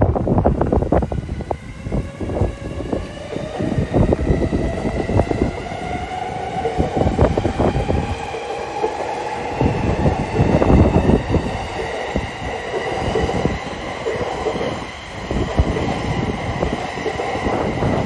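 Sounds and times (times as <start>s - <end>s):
train wheels clattering on rails: 0.0s - 18.0s
train whine: 0.0s - 18.0s.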